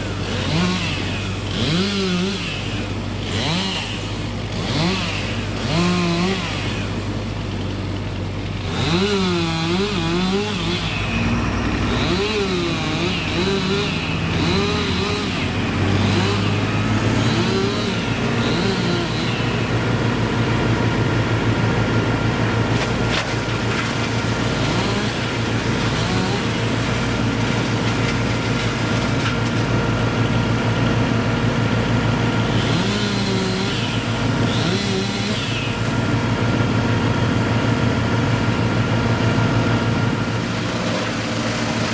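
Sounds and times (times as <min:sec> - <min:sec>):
chainsaw revving: 0:00.0 - 0:41.9
engine drone: 0:00.0 - 0:41.9.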